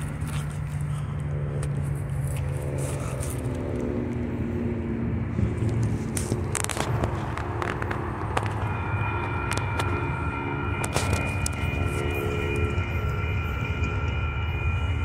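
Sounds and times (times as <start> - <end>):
low engine rumble: 0.0 - 15.0
sliding pitched tones: 1.4 - 15.0.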